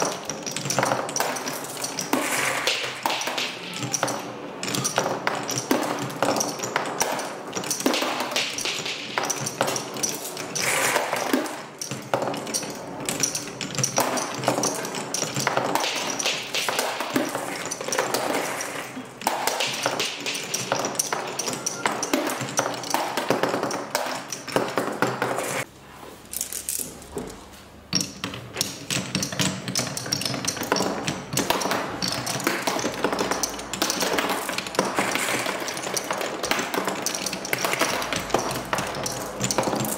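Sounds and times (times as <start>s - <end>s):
marbles clattering on wooden run: 0.0s - 25.7s, 28.0s - 39.9s.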